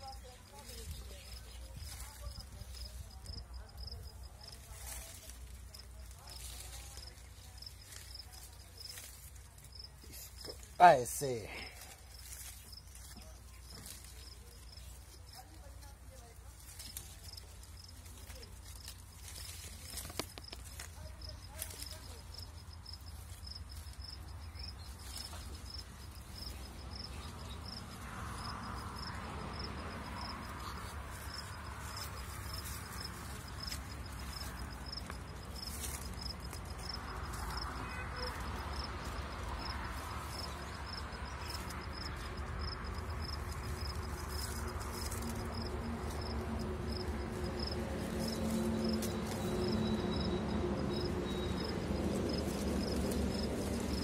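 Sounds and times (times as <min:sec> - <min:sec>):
insect chirping: 0:00.0 - 0:15.4, 0:16.6 - 0:54.0.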